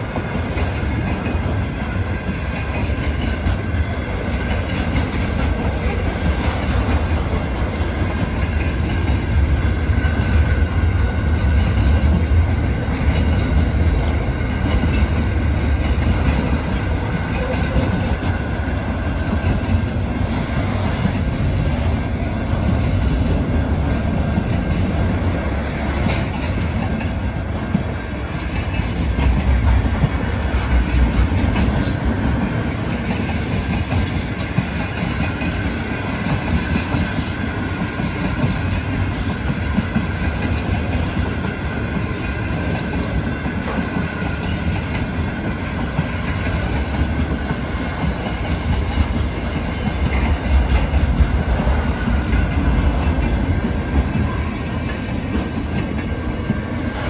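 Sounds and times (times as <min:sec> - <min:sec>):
freight train rumbling past: 0:00.0 - 0:57.0
wheels knocking on rails: 0:00.0 - 0:57.0.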